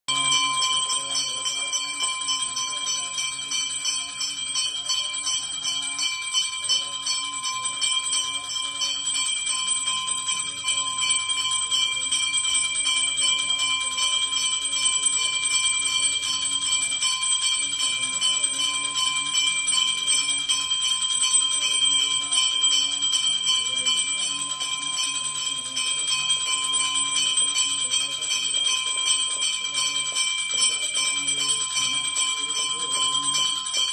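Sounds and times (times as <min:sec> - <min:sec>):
metal bell ringing rapidly: 0:00.1 - 0:33.9.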